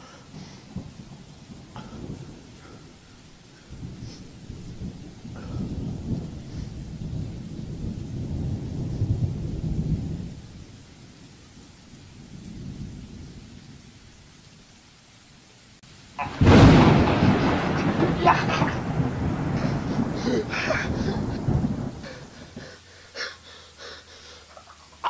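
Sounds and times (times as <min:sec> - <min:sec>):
rolling thunder: 0:00.0 - 0:14.4, 0:16.0 - 0:25.0.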